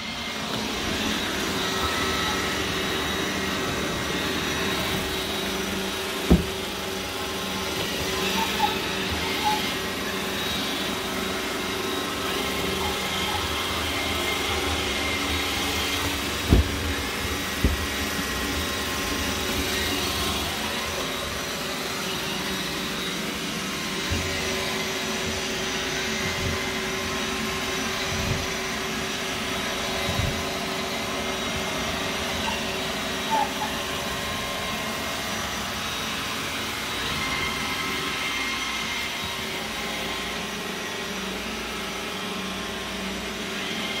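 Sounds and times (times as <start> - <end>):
robot vacuum motor and brush whine: 0.0 - 44.0.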